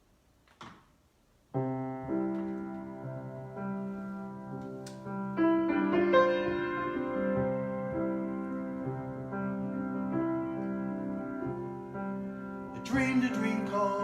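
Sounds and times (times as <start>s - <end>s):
piano chords: 1.5s - 14.0s.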